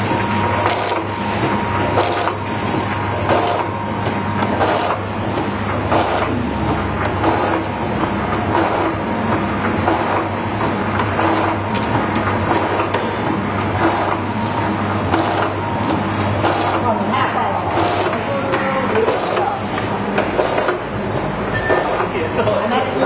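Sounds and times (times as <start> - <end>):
packaging machines humming: 0.0 - 23.0.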